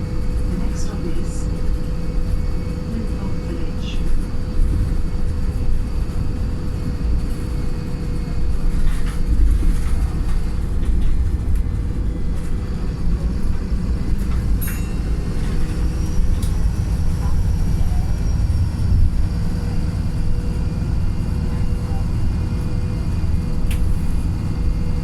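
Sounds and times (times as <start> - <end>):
bus diesel engine rumbling: 0.0 - 25.0.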